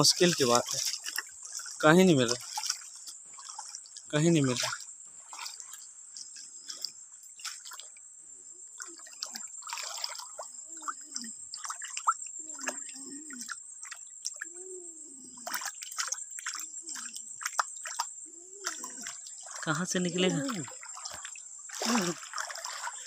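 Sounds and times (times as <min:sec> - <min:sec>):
small splashes and drips: 0:00.0 - 0:23.0
stream water trickling: 0:00.0 - 0:23.0.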